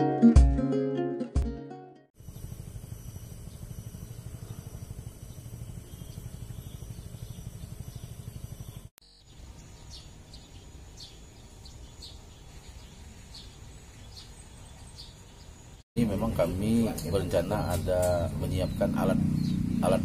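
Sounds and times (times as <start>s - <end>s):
bird chirping: 3.5s - 20.0s.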